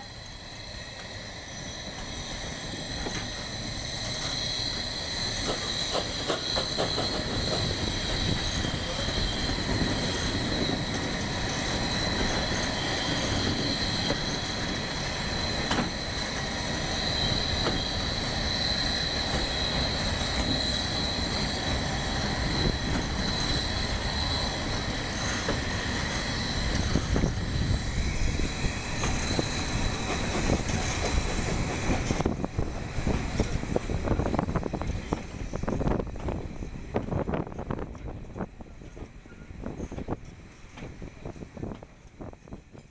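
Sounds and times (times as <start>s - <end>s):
wheel flange squeal: 0.0s - 36.7s
train rolling rumble: 0.0s - 42.9s.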